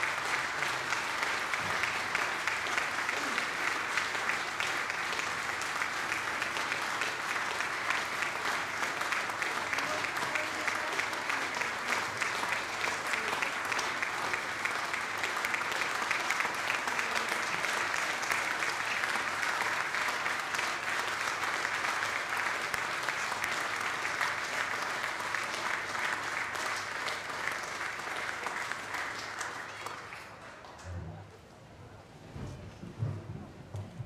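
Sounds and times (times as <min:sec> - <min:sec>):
audience applauding: 0:00.0 - 0:31.4.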